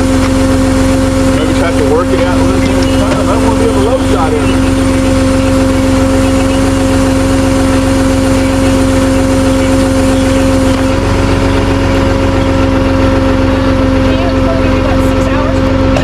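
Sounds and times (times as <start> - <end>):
tow truck engine idling: 0.0 - 16.0.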